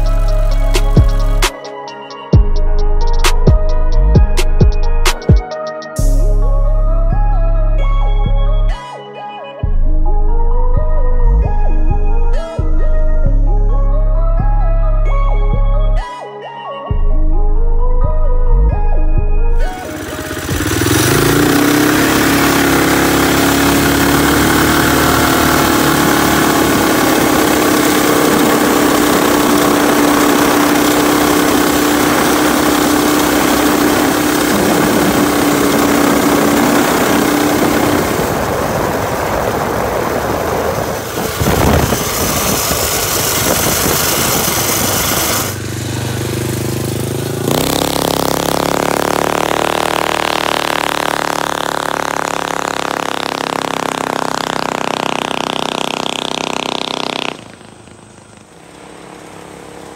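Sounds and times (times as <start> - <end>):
engine at full throttle: 0.0 - 8.8, 19.5 - 59.9.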